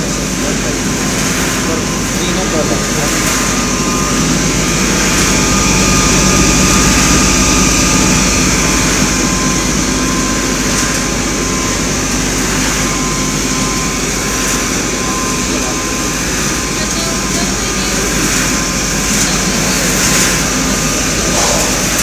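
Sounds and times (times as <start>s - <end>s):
popcorn machine humming: 0.0s - 22.0s.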